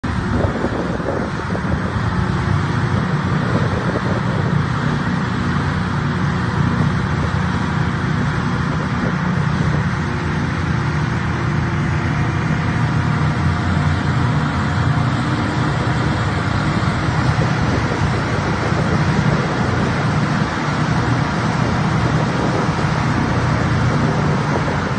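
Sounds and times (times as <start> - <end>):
diesel and blower drone: 0.0 - 24.9.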